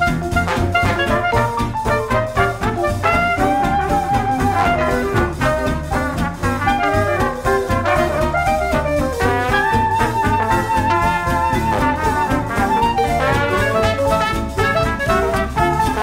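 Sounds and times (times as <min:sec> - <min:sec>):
instrumental music with beat and bass: 0:00.0 - 0:16.0.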